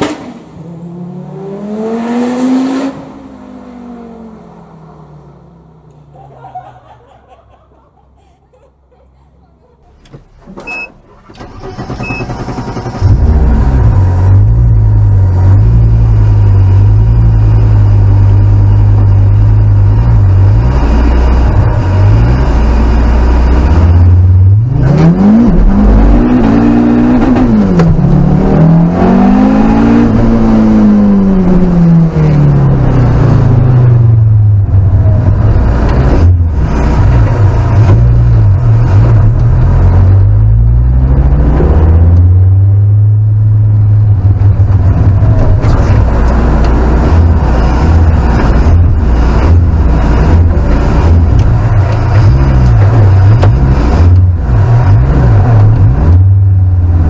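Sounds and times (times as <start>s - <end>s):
car engine starting and revving: 0.0s - 6.3s, 10.0s - 57.0s.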